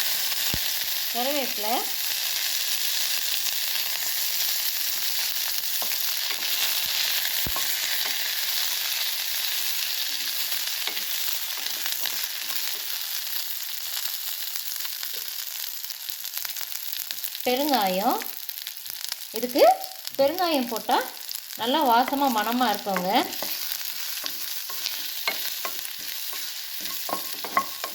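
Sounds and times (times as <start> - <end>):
spices sizzling in hot oil: 0.0 - 27.9.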